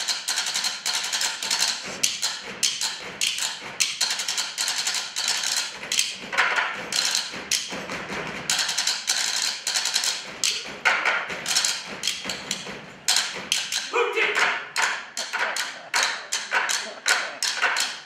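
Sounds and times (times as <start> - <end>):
wooden spoons drumming on tables: 0.0 - 18.0.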